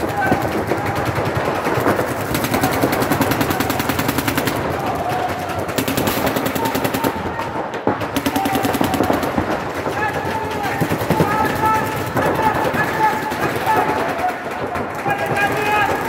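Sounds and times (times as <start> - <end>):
paintball markers firing rapidly: 0.0 - 16.0.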